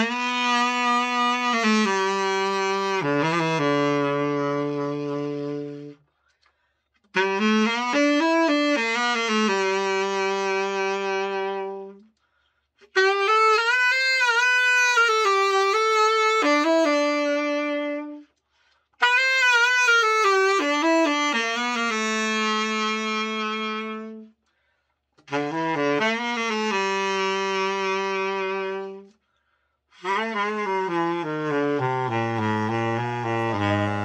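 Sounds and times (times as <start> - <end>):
tenor saxophone held notes: 0.0 - 6.0, 7.1 - 12.1, 12.8 - 18.4, 19.0 - 24.4, 25.2 - 29.2, 29.9 - 34.0.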